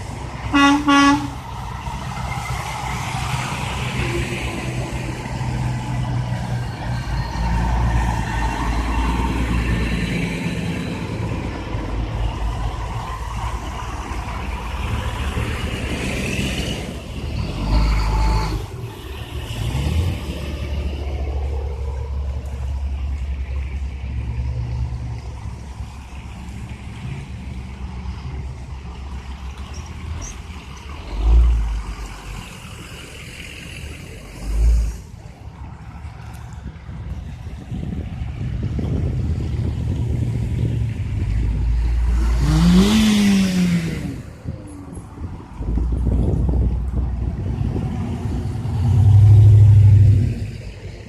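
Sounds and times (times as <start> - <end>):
truck engines rumbling: 0.0 - 51.0.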